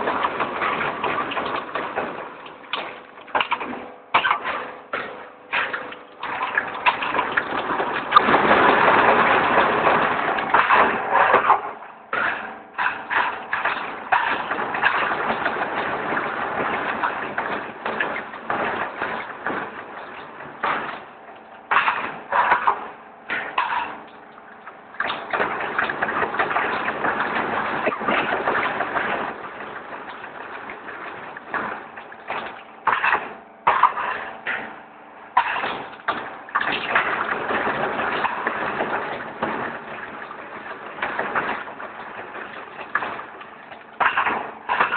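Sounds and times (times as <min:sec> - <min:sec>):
irregular clicks and knocks: 0:00.0 - 0:44.9
roll forming machine running: 0:00.0 - 0:44.9.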